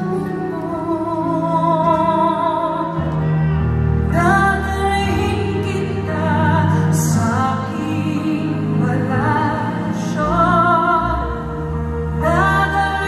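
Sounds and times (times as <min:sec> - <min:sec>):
woman singing a slow ballad: 0:00.0 - 0:03.4, 0:04.1 - 0:11.4.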